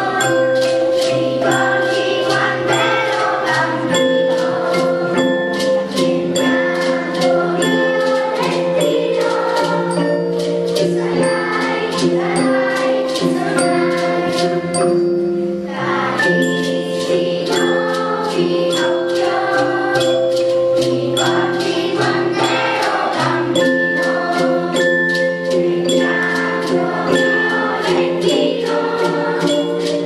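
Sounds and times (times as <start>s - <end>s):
children's choir singing: 0.0s - 30.0s
hand percussion beat: 0.0s - 30.0s.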